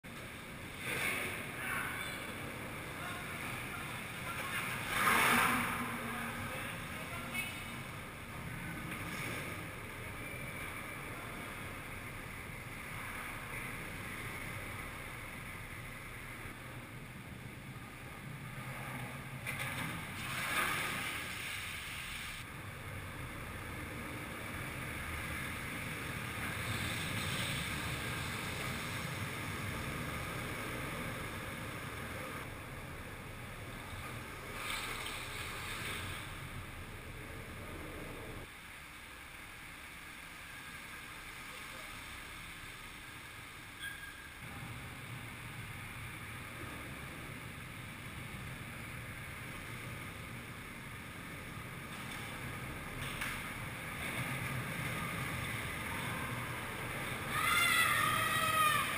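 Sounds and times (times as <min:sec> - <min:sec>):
skateboard wheels rolling on concrete: 0:00.0 - 0:38.7, 0:44.4 - 0:58.9.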